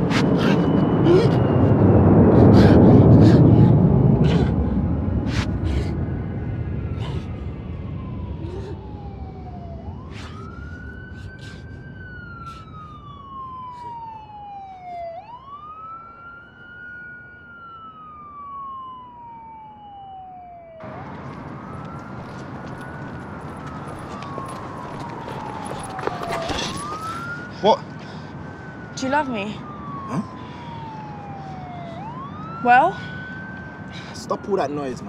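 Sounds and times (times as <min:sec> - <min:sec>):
emergency siren wailing: 0:00.0 - 0:35.0.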